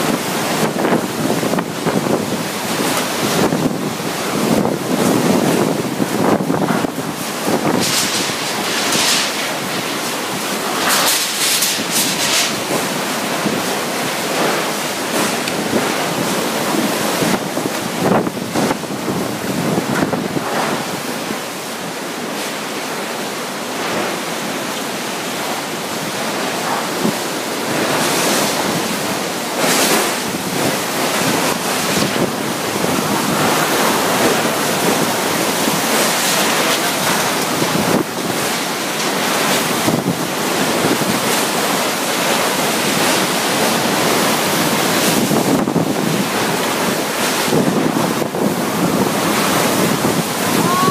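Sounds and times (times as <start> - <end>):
wind buffeting microphone: 0.0 - 21.5, 25.4 - 50.9
gusting wind and rain: 0.0 - 50.9.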